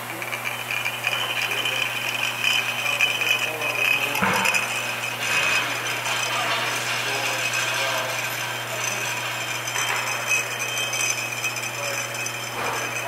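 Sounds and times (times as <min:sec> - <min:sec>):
conveyor line whirring: 0:00.0 - 0:13.0
glass bottles clinking: 0:00.0 - 0:13.0.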